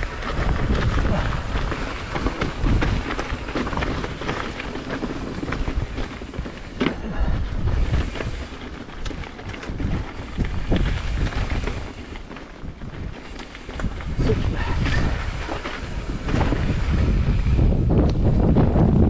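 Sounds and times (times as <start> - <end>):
mountain bike rattling: 0.0 - 19.0
wind buffeting microphone: 0.0 - 19.0.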